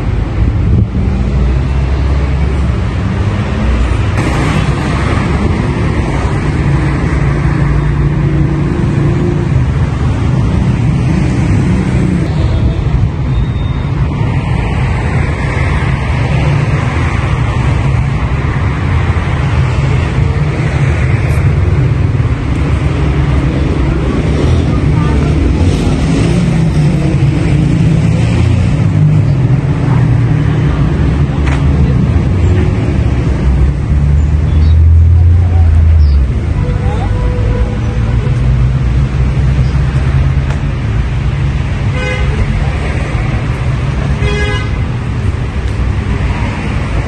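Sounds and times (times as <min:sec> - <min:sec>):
city road traffic rumble: 0:00.0 - 0:47.0.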